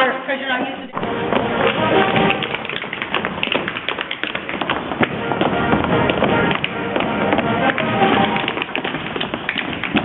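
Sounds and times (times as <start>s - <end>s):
show music: 0.9s - 10.0s
tap shoes on stage floor: 1.0s - 10.0s.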